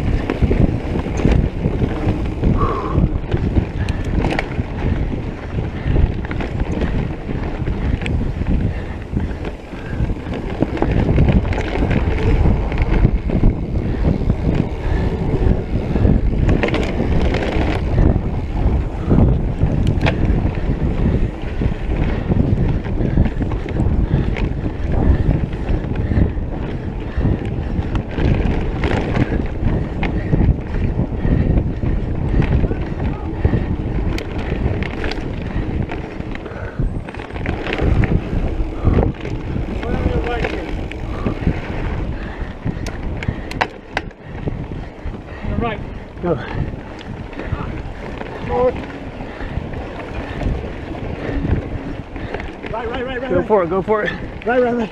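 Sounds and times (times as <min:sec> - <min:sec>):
bike rattling over bumps: 0:00.0 - 0:54.9
tyres rolling on dirt trail: 0:00.0 - 0:54.9
wind rushing over microphone: 0:00.0 - 0:54.9.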